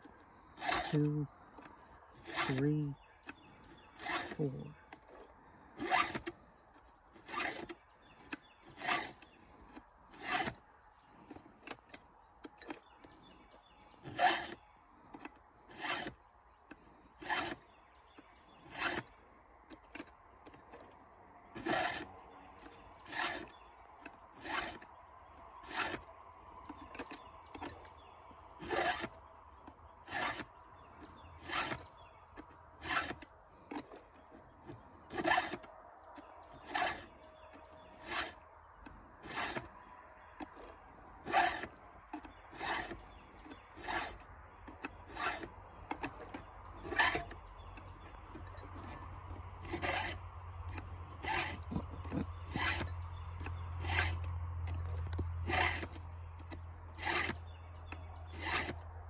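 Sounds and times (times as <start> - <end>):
hand file rasping saw chain: 0.5 - 1.3, 2.2 - 6.3, 7.1 - 10.6, 11.3 - 12.9, 14.0 - 16.2, 17.1 - 17.6, 18.6 - 19.1, 21.6 - 24.8, 25.6 - 26.1, 26.7 - 27.9, 28.6 - 39.7, 40.4 - 58.9.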